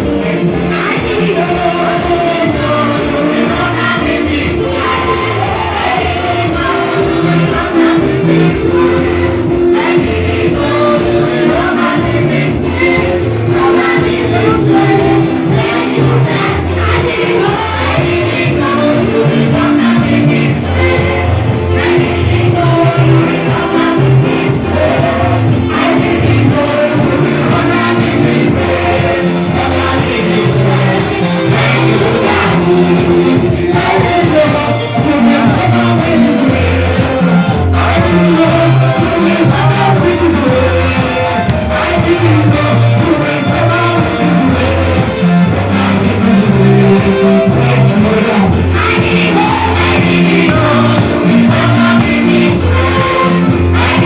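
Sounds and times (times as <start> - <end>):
bass line: 0.0 - 54.0
electric guitar: 0.0 - 54.0
live band playing: 0.0 - 54.0
voices singing together: 0.0 - 54.0.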